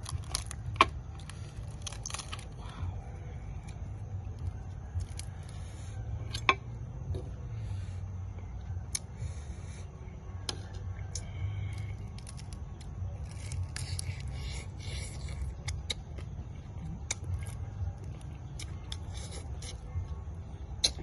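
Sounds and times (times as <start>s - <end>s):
crunching and smacking while eating: 0.0s - 7.4s, 8.4s - 9.4s, 10.4s - 21.0s
low rumble: 0.0s - 20.8s.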